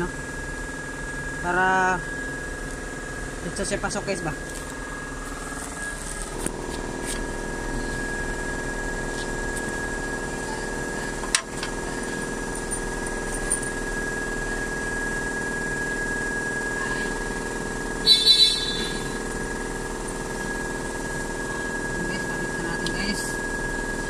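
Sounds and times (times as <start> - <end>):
mechanical hum with high whine: 0.0 - 24.0.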